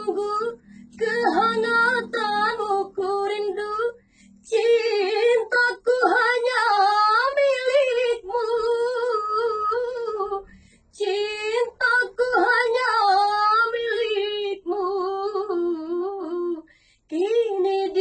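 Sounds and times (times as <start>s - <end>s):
woman singing unaccompanied: 0.0s - 10.4s, 11.0s - 18.0s.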